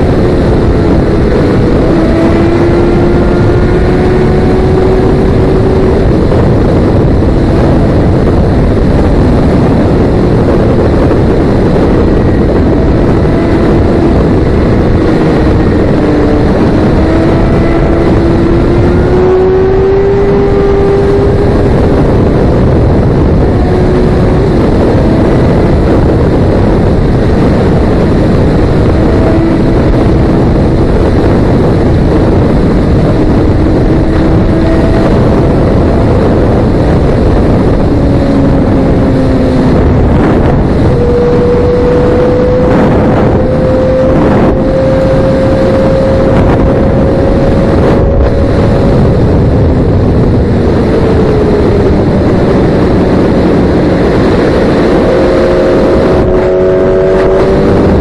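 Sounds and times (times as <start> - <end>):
motorcycle engine: 0.0 - 58.0
wind rush on the microphone: 0.0 - 58.0.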